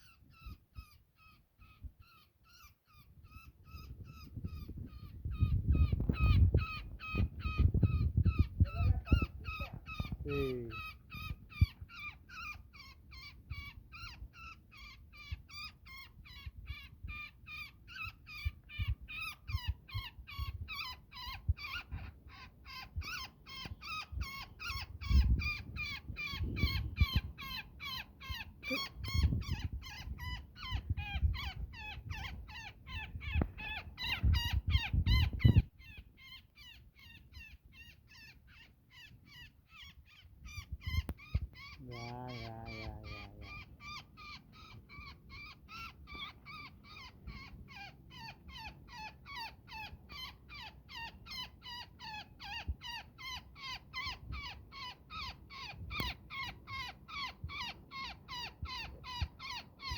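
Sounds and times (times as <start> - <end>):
woodpecker short high calls: 5.4 - 59.9.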